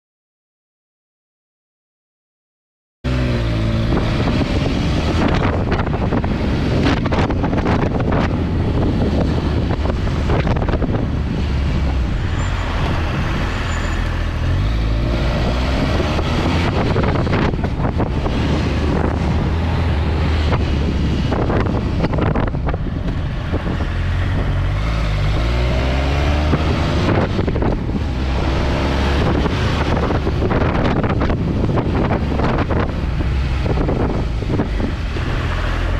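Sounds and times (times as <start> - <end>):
wind noise on microphone: 3.1 - 35.9.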